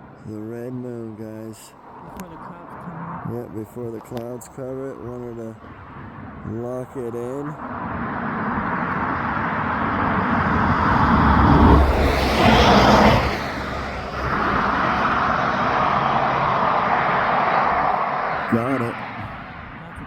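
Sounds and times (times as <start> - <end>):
road traffic: 0.0 - 20.0
vehicle passing by: 0.0 - 20.0.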